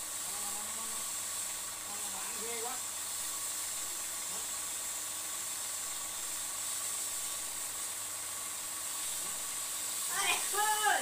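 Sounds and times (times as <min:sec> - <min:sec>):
hose nozzle spraying mist: 0:00.0 - 0:11.0.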